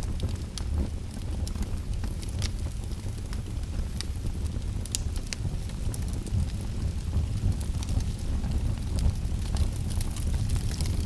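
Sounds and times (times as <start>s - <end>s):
fire crackling and popping: 0.0s - 11.0s.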